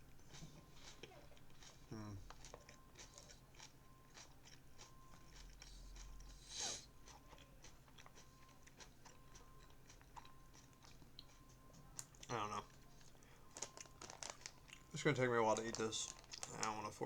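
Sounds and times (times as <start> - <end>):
person chewing salad: 0.0 - 17.0.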